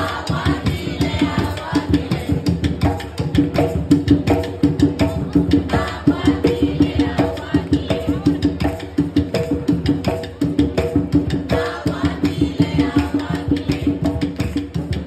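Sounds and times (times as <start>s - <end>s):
barrel hand drums: 0.0s - 15.0s.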